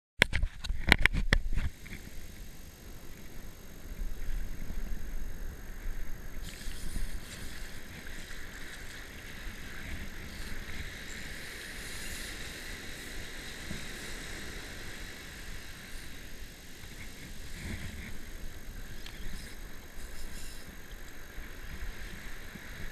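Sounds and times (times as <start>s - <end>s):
wind on microphone: 0.3s - 22.9s
surf washing on sand: 1.6s - 22.9s
fishing reel whirring: 1.7s - 22.9s.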